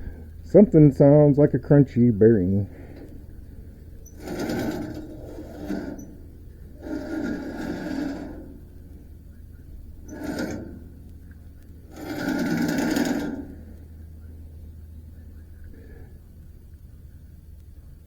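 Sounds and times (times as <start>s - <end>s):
sawmill bearing crunching rumble: 0.0s - 17.7s.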